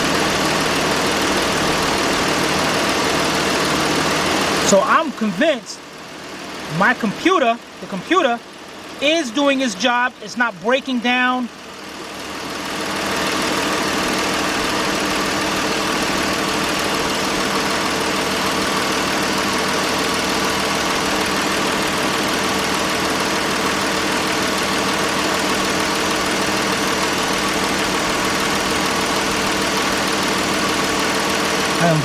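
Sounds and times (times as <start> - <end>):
car engine idling with misfire: 0.0 - 32.0.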